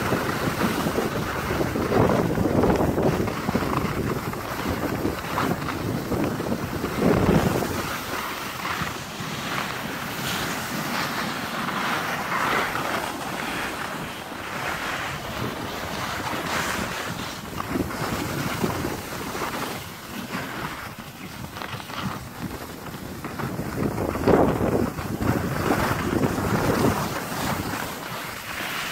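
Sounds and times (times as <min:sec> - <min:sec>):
snowboard sliding on snow: 0:00.0 - 0:28.9
wind buffeting microphone: 0:00.0 - 0:28.9.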